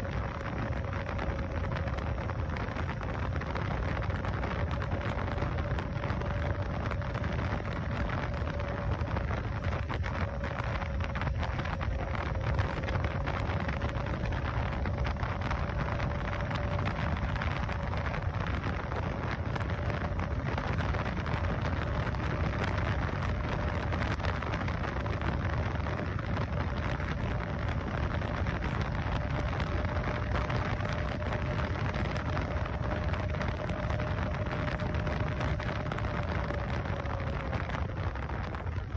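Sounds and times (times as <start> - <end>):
electric motor whine: 0.0 - 38.9
wind and road noise: 0.0 - 38.9.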